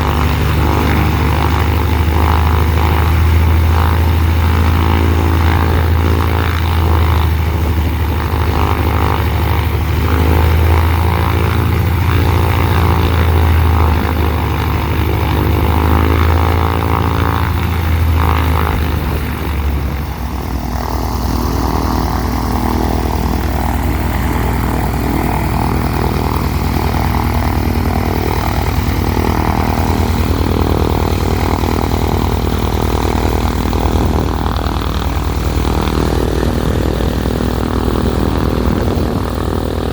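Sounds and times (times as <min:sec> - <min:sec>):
piston aircraft engine and propeller: 0:00.0 - 0:39.9.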